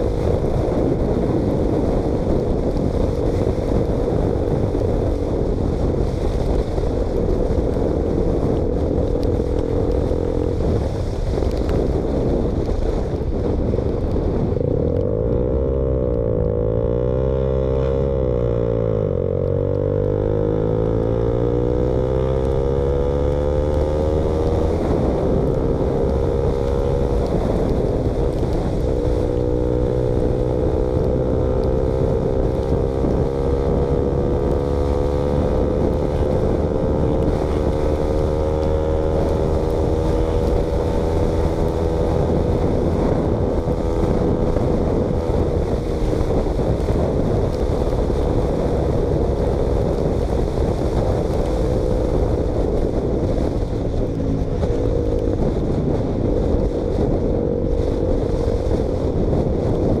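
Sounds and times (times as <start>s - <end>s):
motorcycle engine running: 0.0s - 60.0s
wind rushing over microphone: 0.0s - 60.0s.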